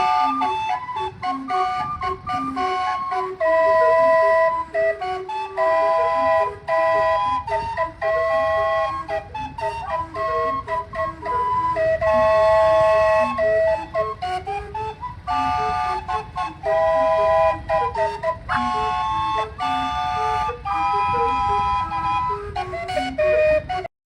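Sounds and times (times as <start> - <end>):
flute-toned pipes tune: 0.0 - 23.9
low steady rumble: 0.0 - 23.9.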